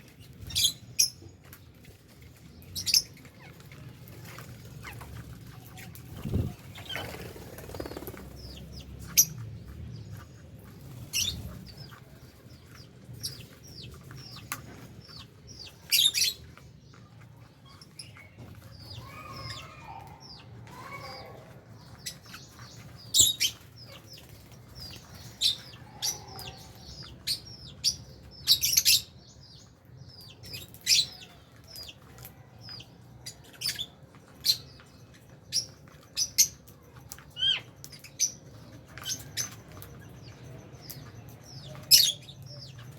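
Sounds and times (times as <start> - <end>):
lovebirds chirping: 0.0 - 42.9.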